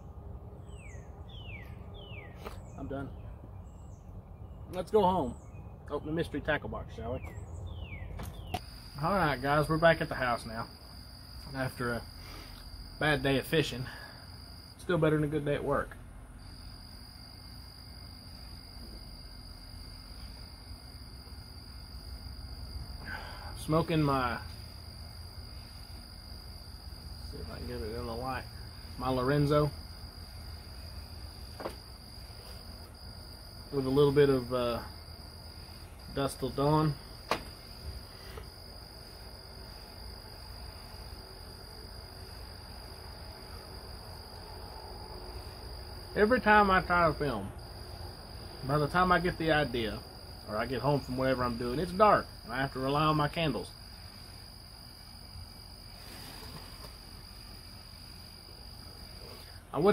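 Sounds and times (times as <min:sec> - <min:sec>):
crickets trilling: 0:00.0 - 0:59.9
low background hum: 0:00.0 - 0:59.9.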